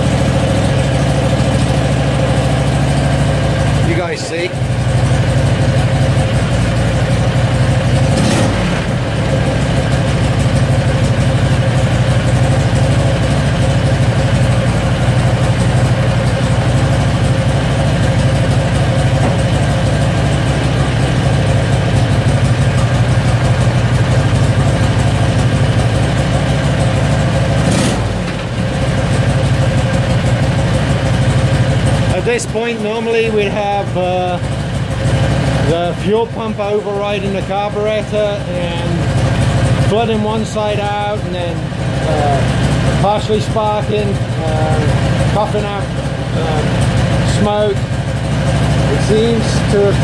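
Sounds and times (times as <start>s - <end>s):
engine running steadily: 0.0s - 50.0s.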